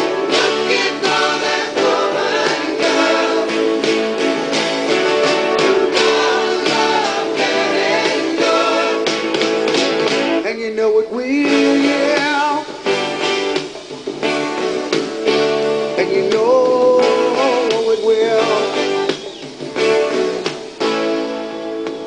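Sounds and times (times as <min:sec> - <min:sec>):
guitar song with singing: 0:00.0 - 0:22.0.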